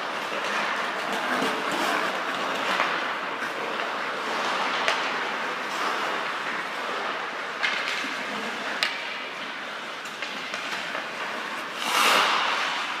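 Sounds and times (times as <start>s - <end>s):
skate blades scraping on ice: 0.0s - 8.9s, 9.6s - 13.0s.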